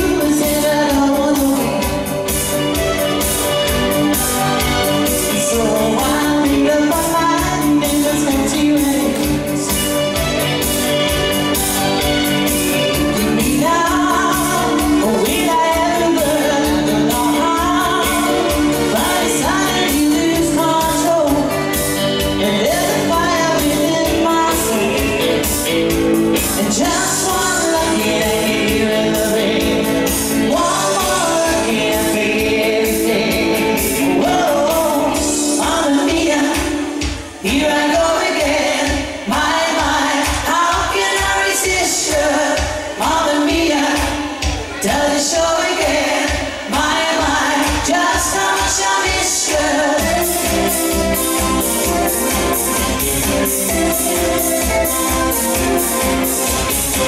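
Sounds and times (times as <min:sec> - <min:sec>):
woman singing into a microphone: 0:00.0 - 0:10.6, 0:12.6 - 0:57.0
live band playing pop: 0:00.0 - 0:57.0.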